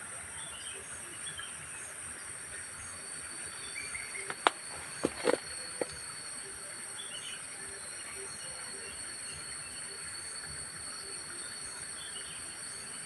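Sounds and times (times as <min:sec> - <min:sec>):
faint chirps: 0:00.0 - 0:13.0
insects buzzing: 0:00.0 - 0:13.0.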